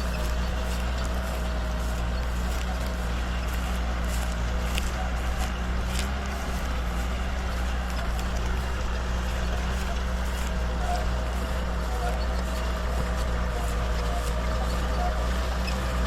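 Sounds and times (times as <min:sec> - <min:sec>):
diesel tractor engine under load: 0:00.0 - 0:16.0.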